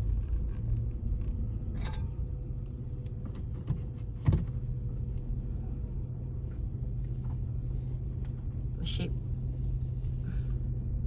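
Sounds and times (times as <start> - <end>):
car engine and road noise: 0.0 - 11.0
faint constant hum: 0.0 - 11.0.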